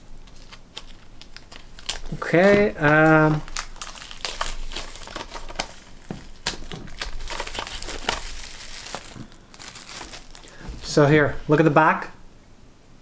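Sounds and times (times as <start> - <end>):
plastic wrap crinkling: 0.0 - 11.6.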